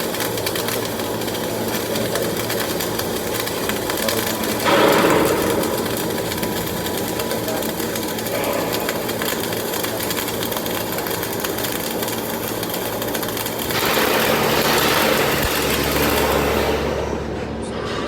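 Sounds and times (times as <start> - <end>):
welding arc crackling and hissing: 0.0 - 17.4.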